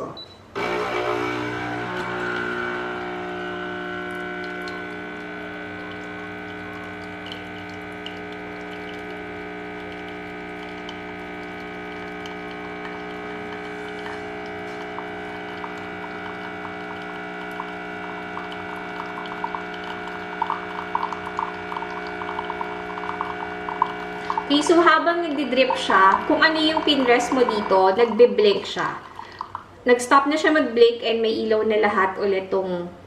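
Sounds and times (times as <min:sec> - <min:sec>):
coffee machine pump humming: 0:00.5 - 0:30.3
coffee pouring and dripping: 0:00.6 - 0:29.7.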